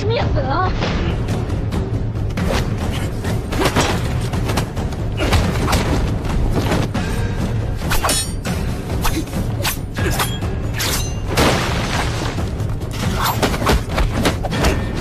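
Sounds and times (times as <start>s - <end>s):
driving action film score: 0.0s - 15.0s.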